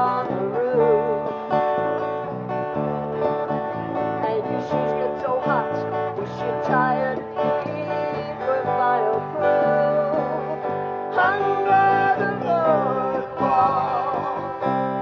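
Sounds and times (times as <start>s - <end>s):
acoustic guitars playing: 0.0s - 15.0s
person singing: 0.0s - 15.0s.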